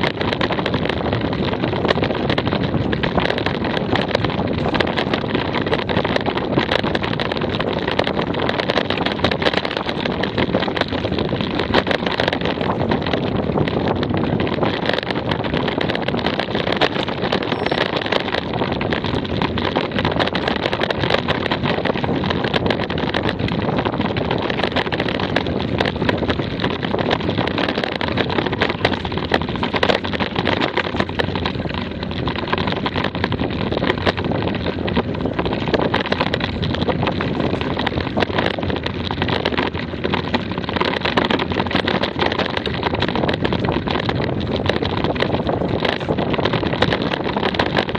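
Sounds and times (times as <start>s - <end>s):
bike rattling and knocking: 0.0s - 47.9s
tyres rumbling on dirt: 0.0s - 47.9s
wind buffeting microphone: 0.0s - 47.9s.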